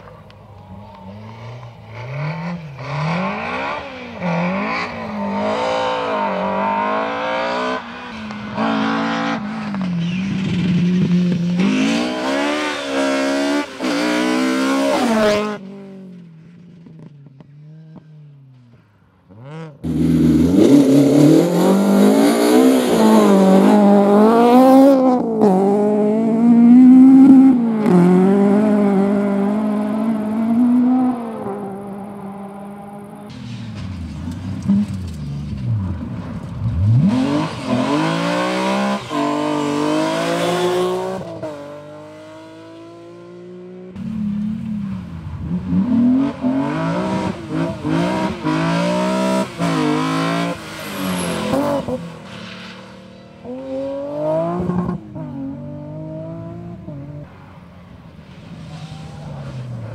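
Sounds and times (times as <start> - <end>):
rally car engines revving: 0.0 - 18.6, 19.3 - 59.9.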